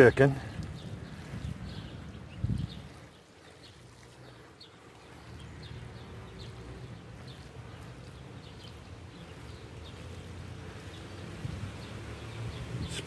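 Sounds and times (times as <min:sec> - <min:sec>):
small bird chirping: 0:00.6 - 0:13.0.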